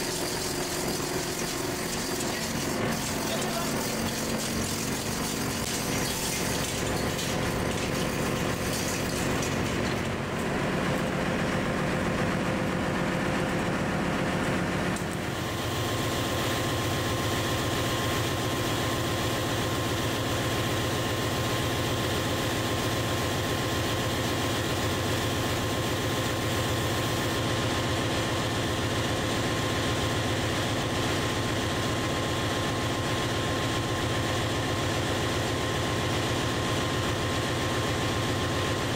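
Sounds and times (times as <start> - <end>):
engine-room machinery drone: 0.0 - 38.9.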